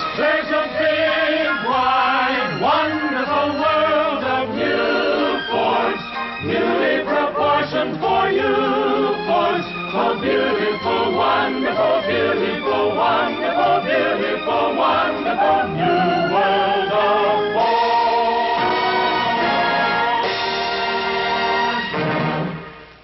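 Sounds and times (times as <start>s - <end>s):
choir singing jingle: 0.0s - 21.8s
orchestra: 0.0s - 23.0s.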